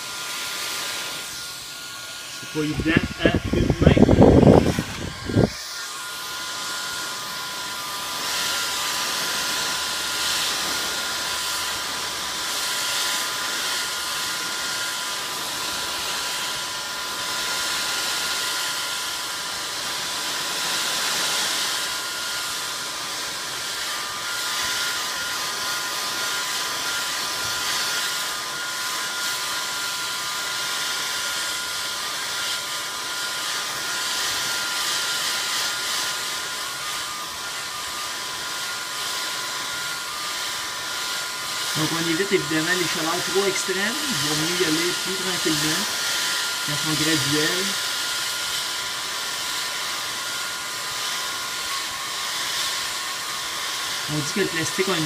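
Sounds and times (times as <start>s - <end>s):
heat gun blowing with whine: 0.0s - 55.0s.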